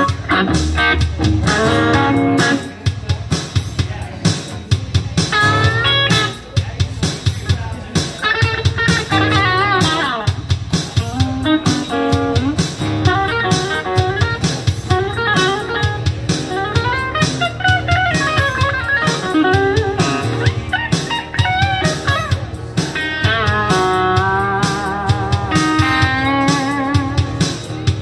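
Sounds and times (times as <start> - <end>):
electric guitar lead: 0.0 - 2.9, 5.3 - 6.4, 8.0 - 28.0.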